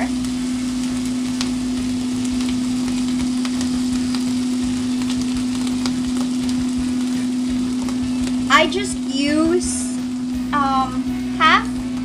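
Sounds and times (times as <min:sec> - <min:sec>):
steady low hum: 0:00.0 - 0:12.0
vegetables sizzling in oil: 0:00.0 - 0:12.0.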